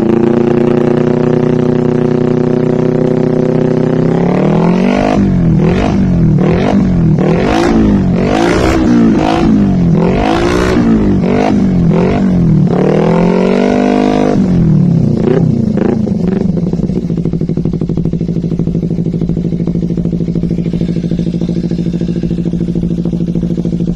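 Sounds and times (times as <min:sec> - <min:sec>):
motorcycle engine idling: 0:00.0 - 0:23.9
motorcycle engine revving: 0:00.0 - 0:23.9.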